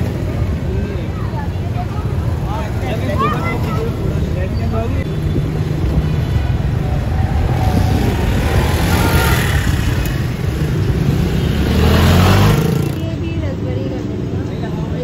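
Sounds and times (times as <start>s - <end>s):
motorcycle and car engines passing: 0.0s - 15.0s.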